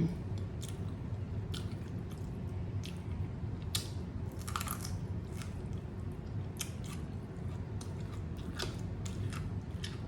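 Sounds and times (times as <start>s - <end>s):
steady low hum: 0.0s - 10.0s
close chewing and crunching: 0.2s - 10.0s.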